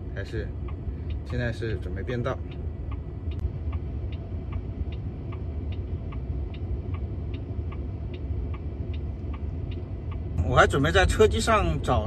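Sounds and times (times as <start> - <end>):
low cabin and traffic rumble: 0.0 - 12.0
turn signal ticking: 0.0 - 12.0.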